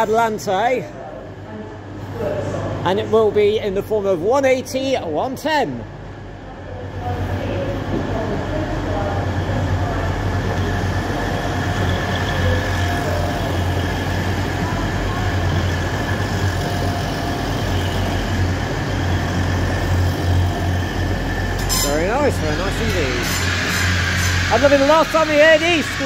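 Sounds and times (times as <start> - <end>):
diesel train engine hum: 0.0 - 26.0.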